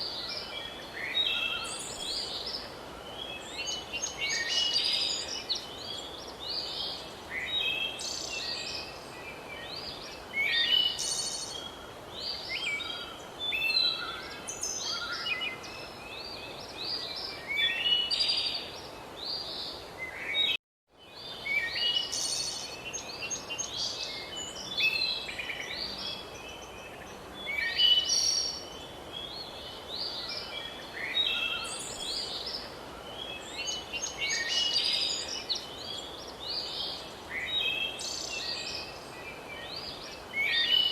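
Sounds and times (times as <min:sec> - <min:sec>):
light background hiss: 0:00.0 - 0:40.9
songbirds chirping and trilling: 0:00.0 - 0:40.9.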